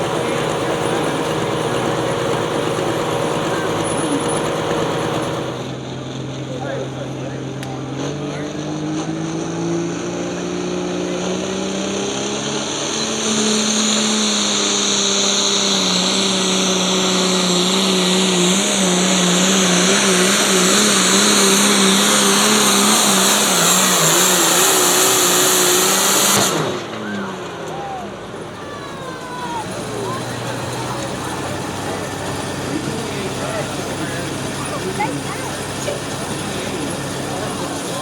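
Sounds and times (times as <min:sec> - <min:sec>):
pulling vehicle engine under load: 0:00.0 - 0:11.5, 0:12.2 - 0:38.0.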